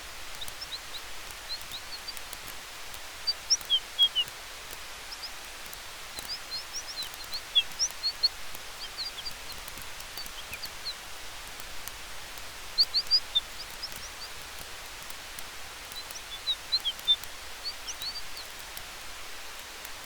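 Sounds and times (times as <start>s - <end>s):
small bird chirping: 0.0s - 19.2s
campfire crackling: 0.0s - 20.0s
wind hiss: 0.0s - 20.0s.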